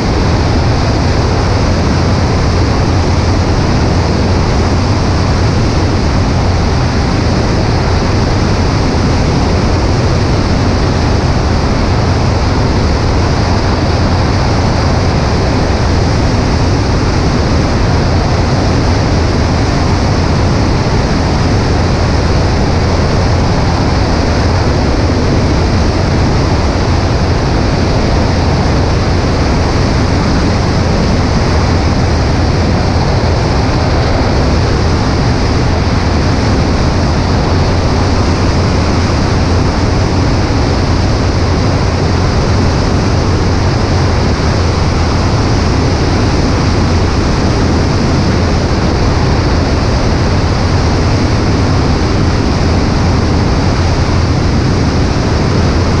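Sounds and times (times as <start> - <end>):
plane engine droning: 0.0 - 56.0
rush of wind: 0.0 - 56.0.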